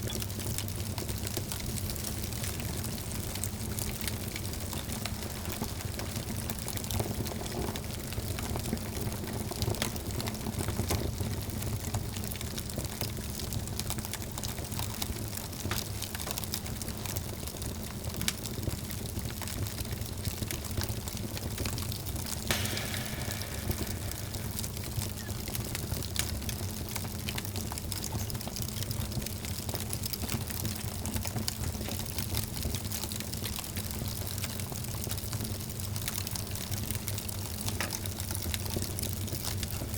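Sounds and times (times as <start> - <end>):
wood fire crackling: 0.1 - 39.9
low fire rumble: 0.2 - 39.9.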